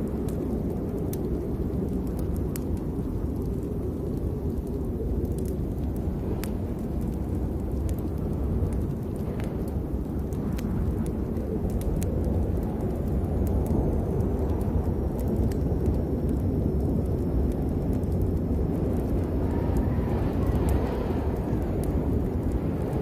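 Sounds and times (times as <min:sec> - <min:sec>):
deep rumbling noise: 0:00.0 - 0:23.0.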